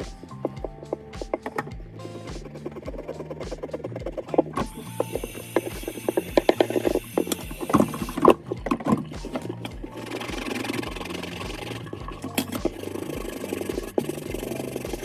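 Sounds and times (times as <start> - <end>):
background music: 0.0 - 15.0
steady rubbing noise: 0.0 - 15.0.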